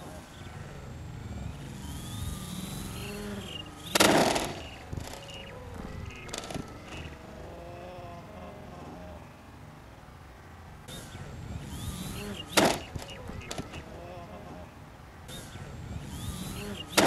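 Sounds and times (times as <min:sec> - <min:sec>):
model airplane motor whine: 0:00.0 - 0:09.2, 0:10.8 - 0:17.0.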